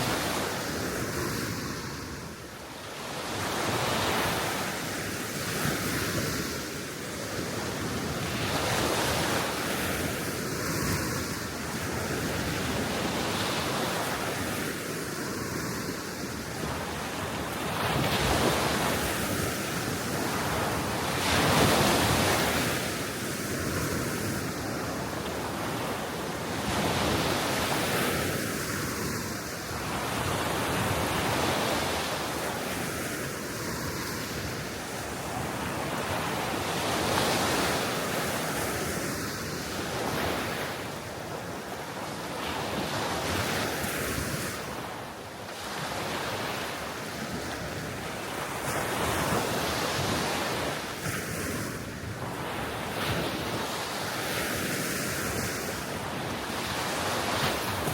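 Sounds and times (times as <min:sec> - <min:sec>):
small waves washing on shore: 0:00.0 - 0:57.9.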